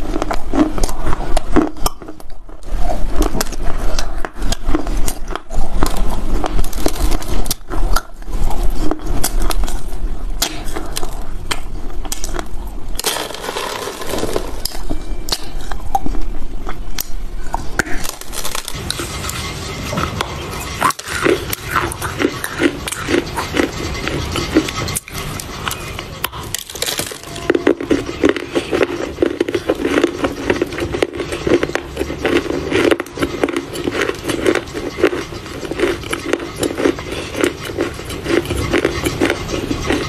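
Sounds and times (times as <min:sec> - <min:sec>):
person chewing crunchy clay: 0:00.0 - 0:40.0.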